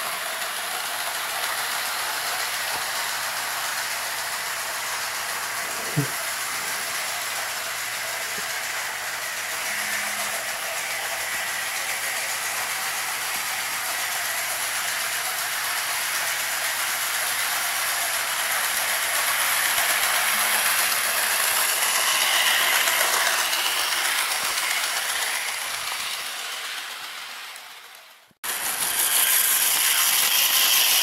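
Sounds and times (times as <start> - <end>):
model train running on track: 0.0 - 31.0.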